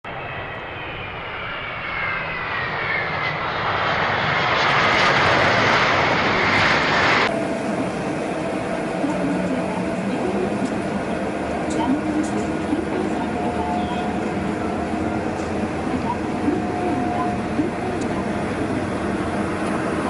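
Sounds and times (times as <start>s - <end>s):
jet engines whining: 0.1s - 20.0s.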